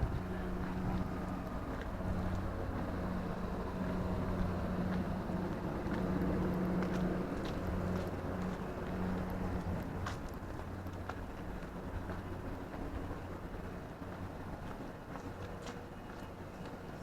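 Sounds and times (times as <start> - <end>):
electric train hum: 0.0 - 17.0
rush of fans: 0.0 - 17.0.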